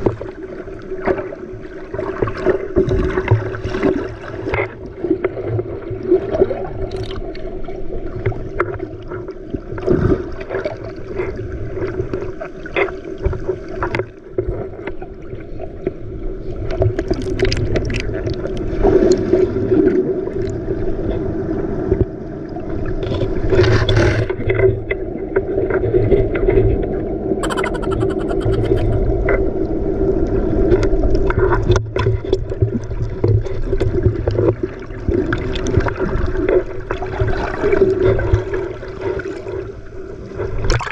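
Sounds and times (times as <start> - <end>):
water splashing against hull: 0.0 - 40.9.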